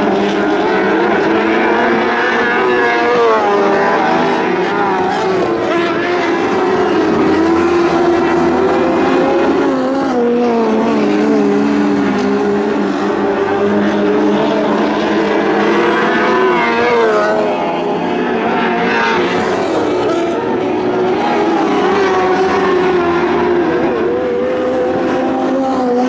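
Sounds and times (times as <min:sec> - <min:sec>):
racing car engines: 0:00.0 - 0:26.0.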